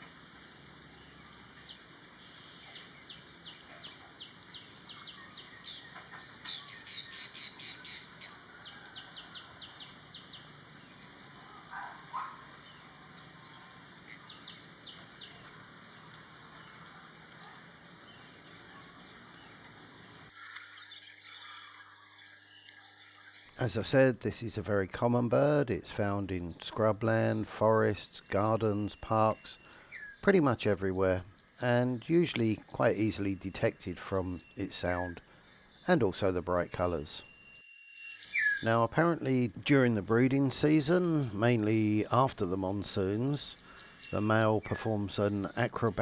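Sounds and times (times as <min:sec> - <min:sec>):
bird chirping: 0:00.8 - 0:46.0.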